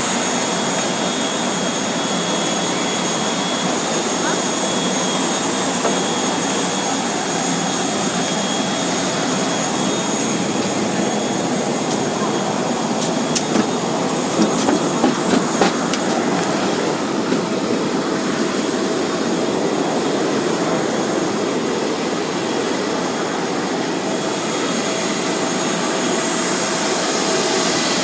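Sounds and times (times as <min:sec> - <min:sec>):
jet engines rushing: 0:00.0 - 0:28.0.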